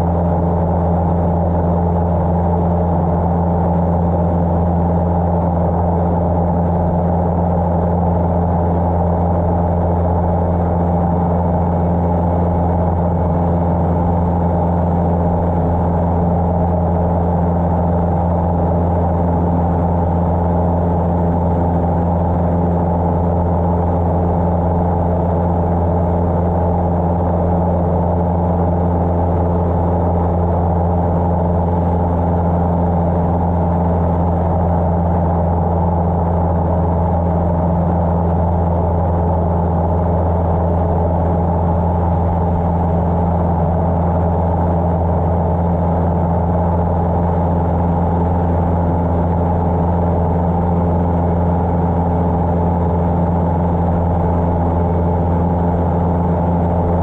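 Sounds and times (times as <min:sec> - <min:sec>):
small plane engine droning: 0:00.0 - 0:57.0.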